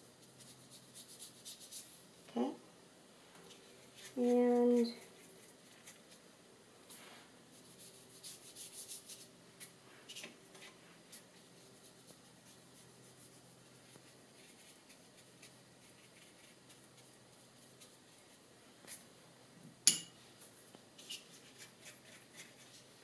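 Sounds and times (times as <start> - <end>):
soft brushing on paper: 0.0 - 2.1, 3.3 - 19.2, 20.3 - 23.0
brush clicks and scratches: 0.1 - 2.0, 3.4 - 6.3, 7.5 - 19.1, 20.4 - 23.0.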